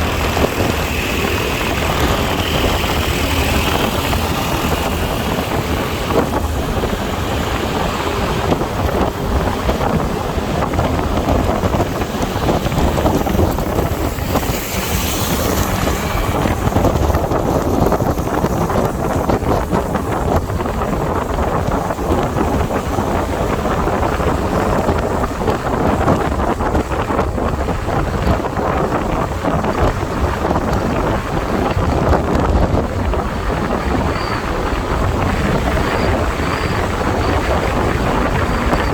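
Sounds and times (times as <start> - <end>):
motorbike engine: 0.0 - 38.9
wind rushing over microphone: 0.0 - 38.9.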